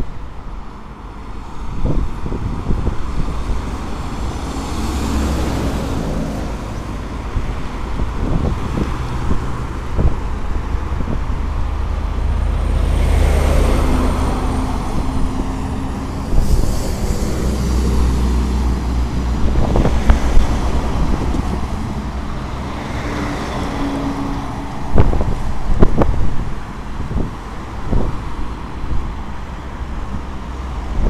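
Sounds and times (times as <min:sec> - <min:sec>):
vehicles driving past at speed: 0:00.0 - 0:31.0.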